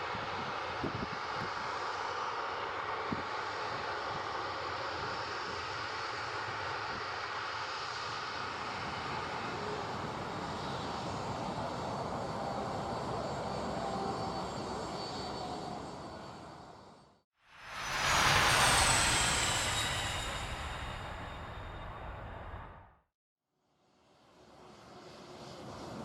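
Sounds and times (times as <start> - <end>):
jet engines running: 0.1 - 16.9, 17.6 - 22.9.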